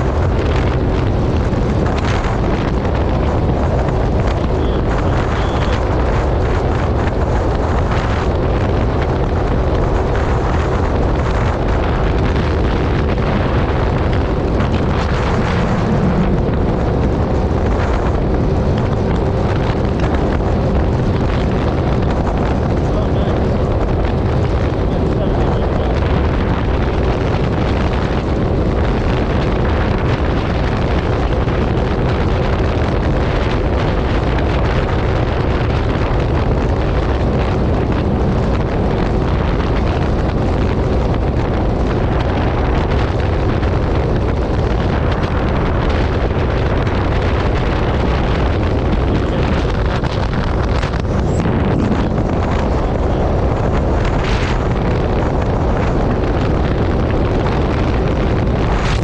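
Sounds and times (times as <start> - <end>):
personal watercraft engine cruising: 0.0 - 59.0
wind buffeting microphone: 0.0 - 59.0.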